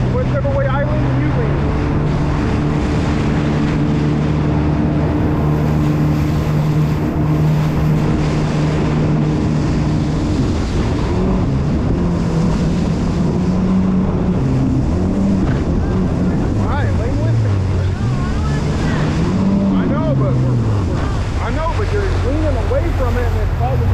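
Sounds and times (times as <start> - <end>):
jet ski engine running: 0.0 - 23.9
water noise: 0.0 - 23.9
wind: 0.0 - 23.9.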